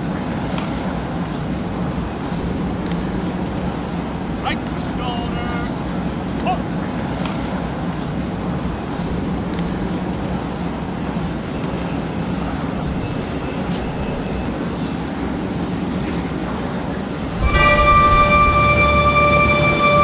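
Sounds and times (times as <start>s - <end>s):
jet airliner engine rumble: 0.0s - 20.0s.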